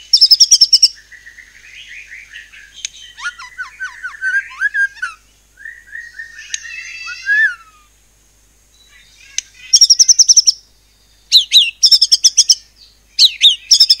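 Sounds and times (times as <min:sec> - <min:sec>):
bird singing whistled notes: 0:00.0 - 0:07.9, 0:09.7 - 0:10.6, 0:11.3 - 0:14.0.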